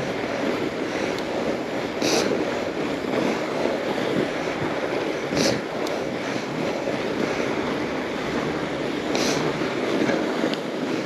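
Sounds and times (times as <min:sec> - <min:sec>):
bike tyre noise: 0:00.0 - 0:11.0
wind on microphone: 0:00.0 - 0:11.0.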